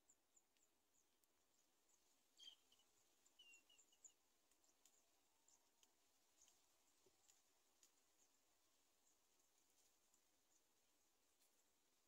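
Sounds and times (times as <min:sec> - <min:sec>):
faint high-pitched ticks and chirps: 0:00.0 - 0:12.0.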